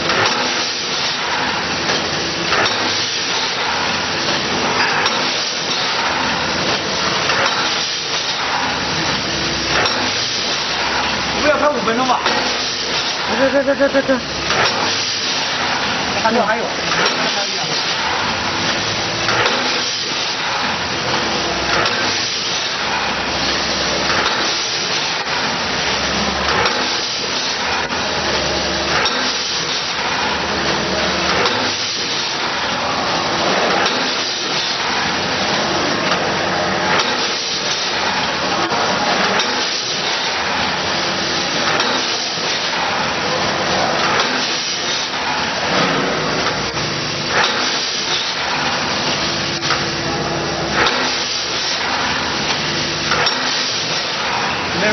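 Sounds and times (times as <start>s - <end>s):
packaging machine running: 0.0s - 54.9s.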